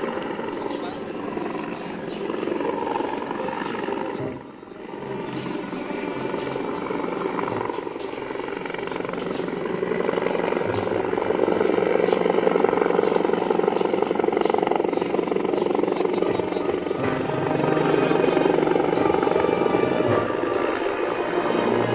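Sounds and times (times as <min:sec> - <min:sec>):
helicopter rotor beating: 0:00.0 - 0:21.9.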